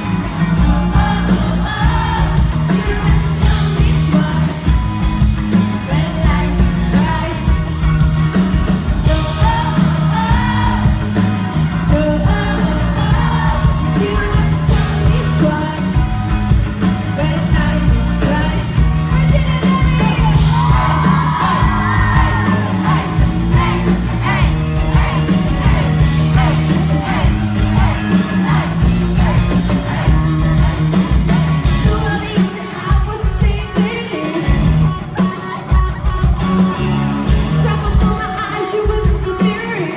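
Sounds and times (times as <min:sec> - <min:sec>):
crowd yelling and screaming: 0:00.0 - 0:39.9
lead vocals singing: 0:00.0 - 0:39.9
live pop-rock band playing: 0:00.0 - 0:39.9.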